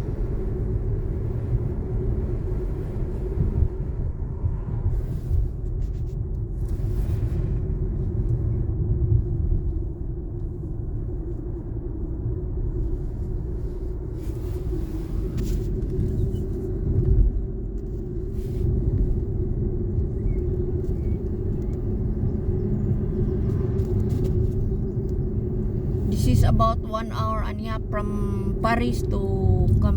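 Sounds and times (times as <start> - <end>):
car road rumble: 0.0 - 29.9.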